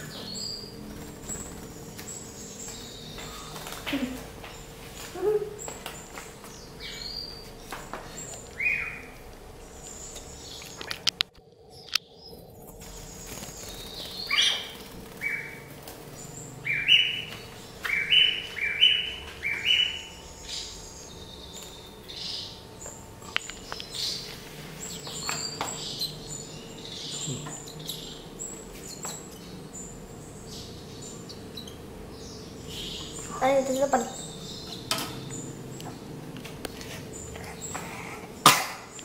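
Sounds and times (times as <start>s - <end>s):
fainter higher bird calls: 0.0s - 11.0s, 11.8s - 36.1s
small bird chirping: 0.0s - 39.0s.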